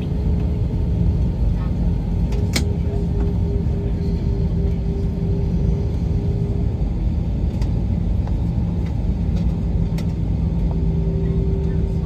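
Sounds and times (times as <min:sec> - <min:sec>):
constant hum: 0:00.0 - 0:12.0
jet cabin rumble: 0:00.0 - 0:12.0.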